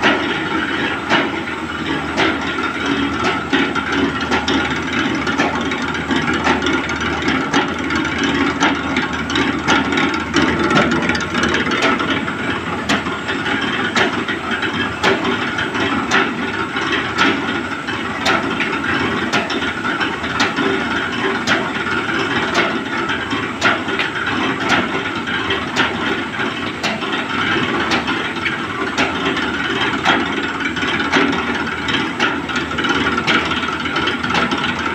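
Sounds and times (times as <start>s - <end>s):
machine belt and rollers clatter: 0.0s - 34.9s.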